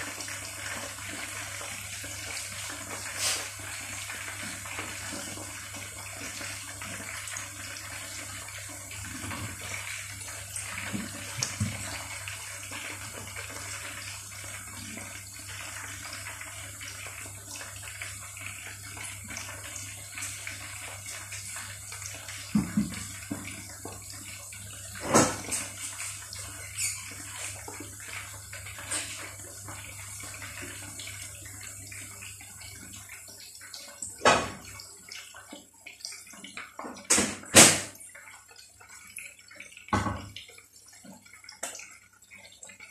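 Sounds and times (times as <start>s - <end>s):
chicken deep-frying in oil: 0.0s - 42.9s.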